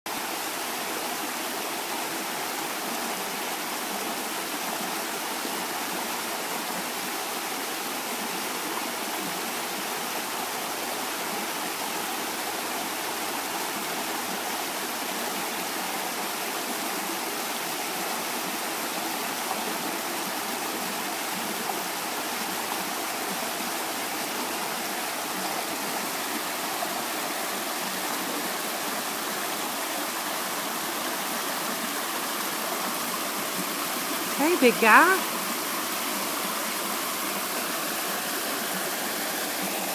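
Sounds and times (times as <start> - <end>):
small waterfall rushing: 0.1 - 39.9.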